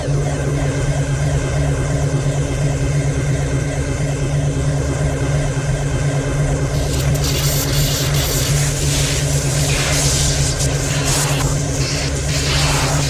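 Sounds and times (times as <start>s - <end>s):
low rough sci-fi hum: 0.0s - 13.0s.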